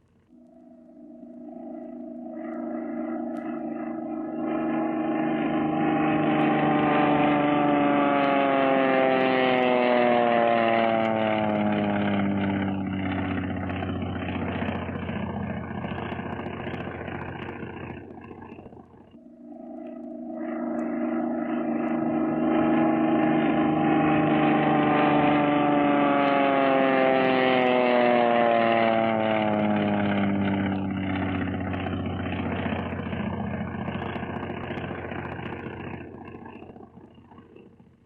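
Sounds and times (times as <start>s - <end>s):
propeller airplane engine drone: 0.0s - 38.0s.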